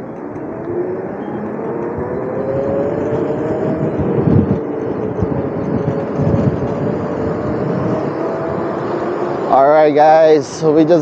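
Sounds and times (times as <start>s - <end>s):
electric motor whining: 0.0s - 10.0s
wind buffeting microphone: 0.0s - 11.0s.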